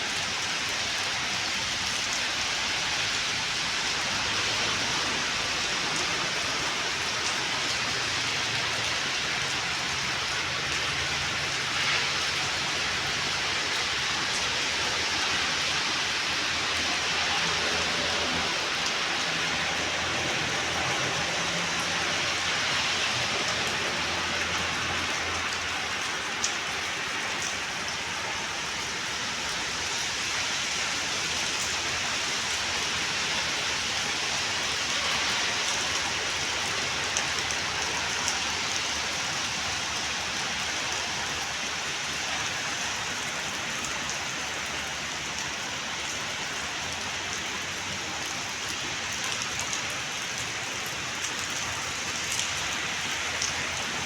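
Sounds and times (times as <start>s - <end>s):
heavy rain on hard surfaces: 0.0s - 54.0s.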